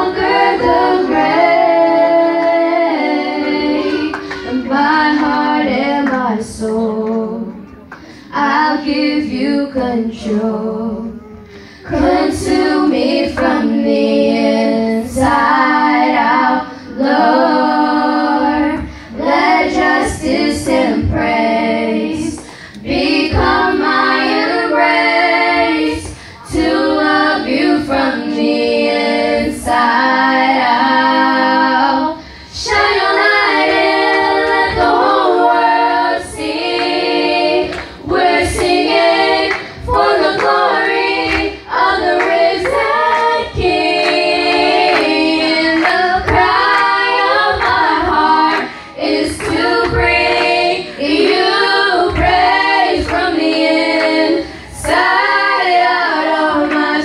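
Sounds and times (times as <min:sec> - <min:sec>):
girls singing a worship song: 0:00.0 - 0:57.0.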